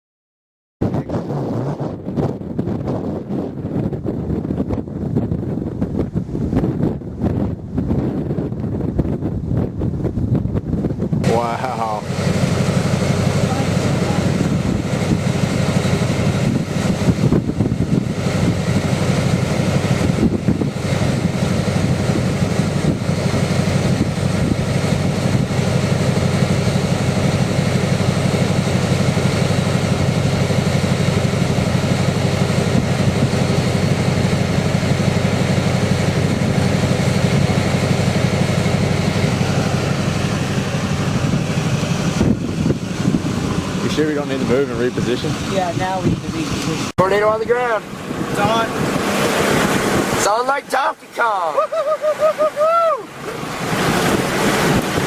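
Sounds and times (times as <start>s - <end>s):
vehicle engine rumble: 0.8s - 50.6s, 51.2s - 55.0s.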